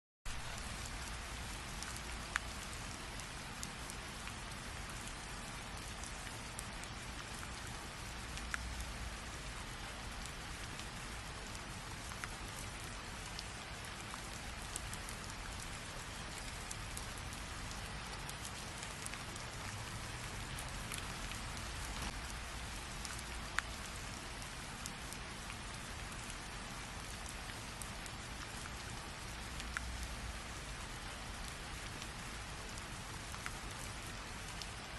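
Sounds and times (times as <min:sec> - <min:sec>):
rain falling: 0:00.3 - 0:34.9.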